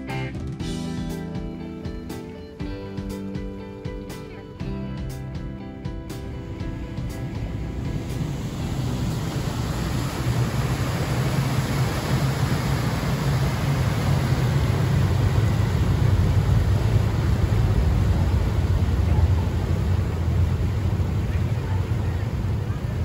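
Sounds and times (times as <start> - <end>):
boat engine rumble: 0.0 - 23.0
rushing wake water: 0.0 - 23.0.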